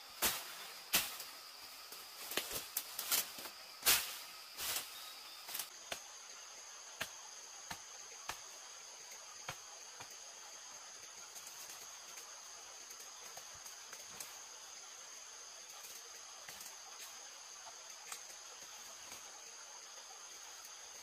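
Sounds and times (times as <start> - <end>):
high insect trill: 0.0 - 21.0.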